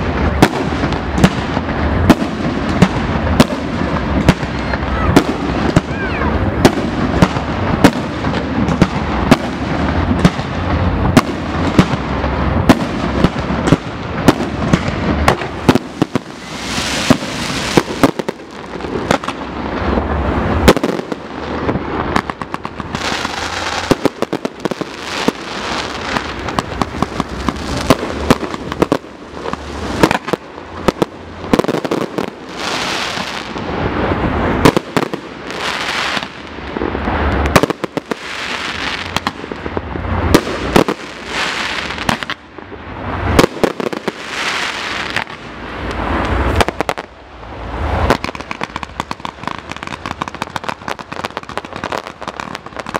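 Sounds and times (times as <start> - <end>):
fireworks bangs and pops: 0.0 - 52.9.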